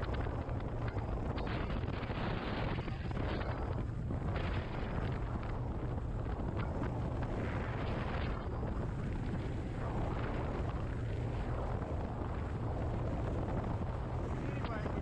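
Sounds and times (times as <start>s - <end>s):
boat motor rumble: 0.0s - 15.0s
wind buffeting microphone: 0.0s - 15.0s.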